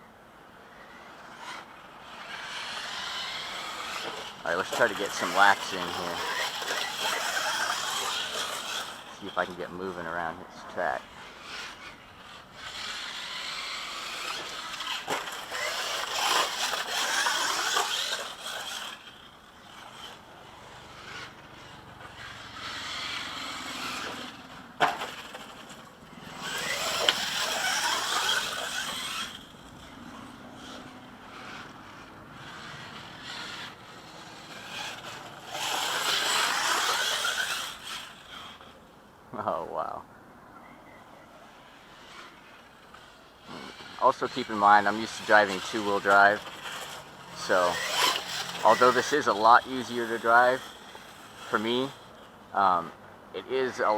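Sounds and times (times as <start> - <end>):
electric motor whining: 1.0 - 38.8, 41.6 - 52.8.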